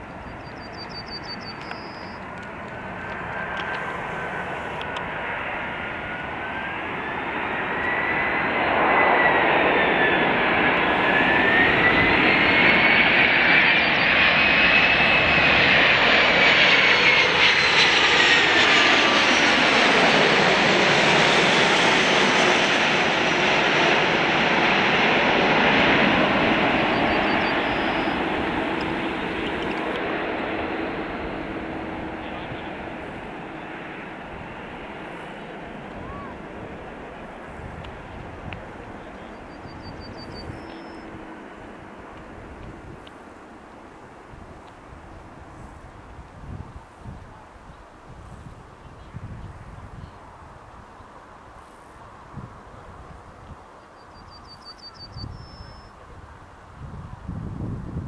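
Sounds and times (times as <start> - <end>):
jet airliner roaring overhead: 0.0 - 58.0
jet engine whine: 0.0 - 58.0.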